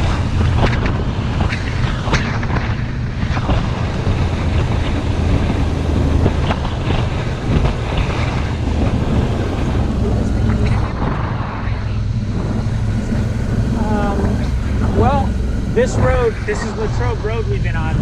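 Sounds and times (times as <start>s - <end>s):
motorcycle running at road speed: 0.0s - 18.0s
wind rushing over microphone: 0.0s - 18.0s.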